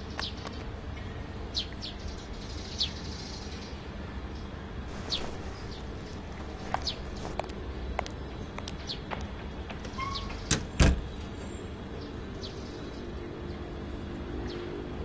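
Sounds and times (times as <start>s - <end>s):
low street background: 0.0s - 15.0s
small birds chirping: 0.0s - 15.0s.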